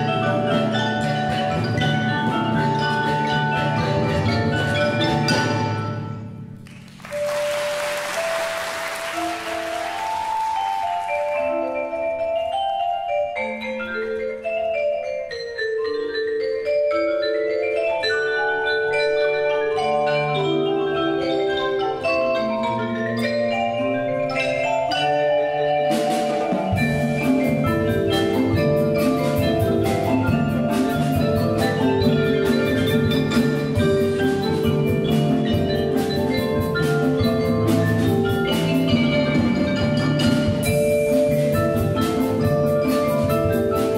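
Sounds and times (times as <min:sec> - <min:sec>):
marimbas and vibraphones: 0:00.0 - 0:43.9
percussion steady beat: 0:00.0 - 0:43.9.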